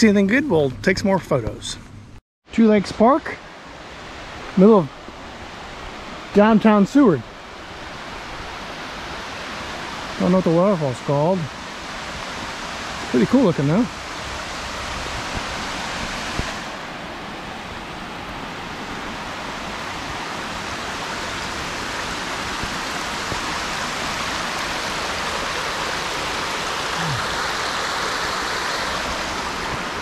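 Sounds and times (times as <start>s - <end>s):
water rushing over stones: 2.6s - 30.0s.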